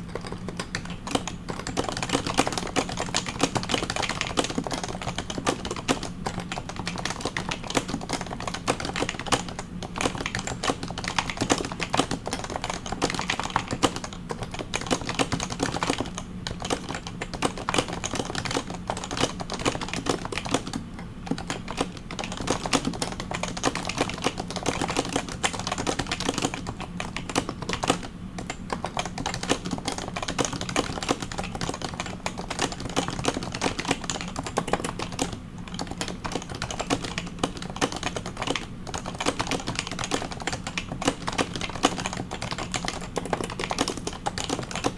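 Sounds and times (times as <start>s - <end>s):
faint steady hum: 0.0s - 44.9s
fast keyboard typing: 0.0s - 44.9s.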